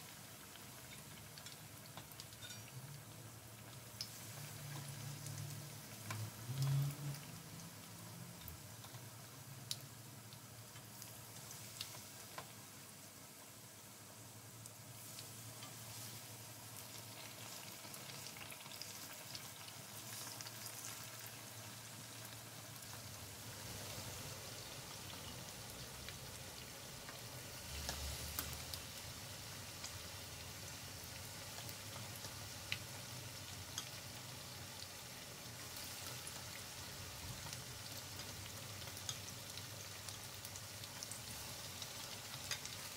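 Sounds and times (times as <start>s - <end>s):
deep-frying sizzle with pops: 0.0s - 42.9s.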